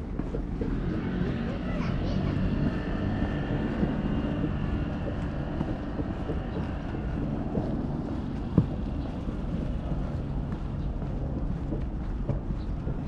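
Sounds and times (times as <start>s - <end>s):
road traffic: 0.0s - 13.0s
wind on microphone: 0.0s - 13.0s.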